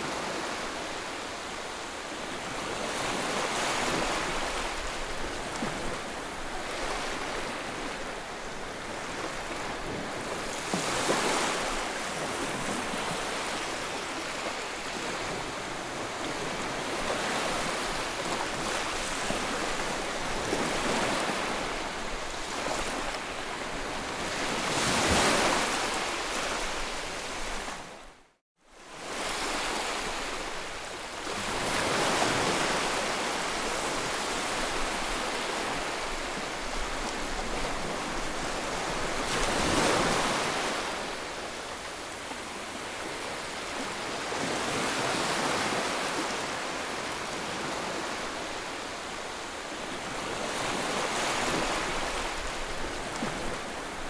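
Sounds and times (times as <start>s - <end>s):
ocean waves breaking: 2.2s - 28.0s, 29.0s - 54.0s.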